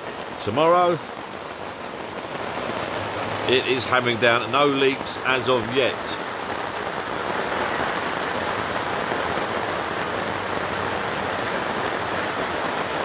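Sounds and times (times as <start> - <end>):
rain on fabric canopy: 0.0 - 13.0.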